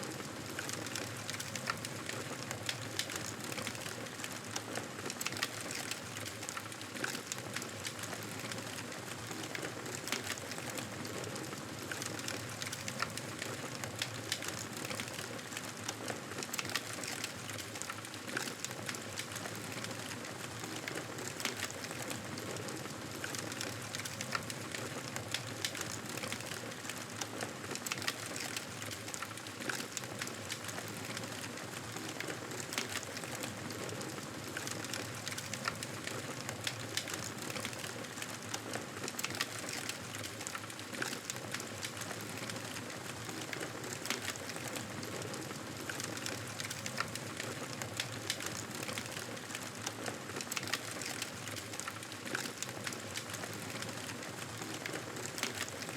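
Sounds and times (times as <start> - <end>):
fireplace fire crackling and popping: 0.0 - 55.9.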